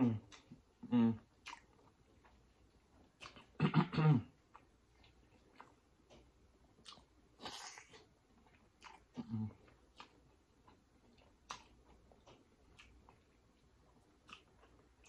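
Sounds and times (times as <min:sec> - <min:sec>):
wet chewing and mouth clicks: 0:00.0 - 0:03.6, 0:04.3 - 0:15.0.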